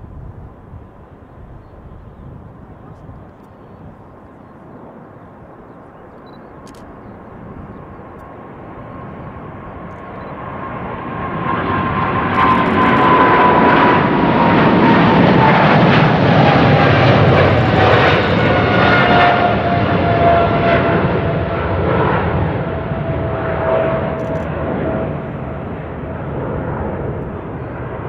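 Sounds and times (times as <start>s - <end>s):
jet engine whine: 0.0s - 28.0s
jet engines roaring at takeoff: 0.0s - 28.0s.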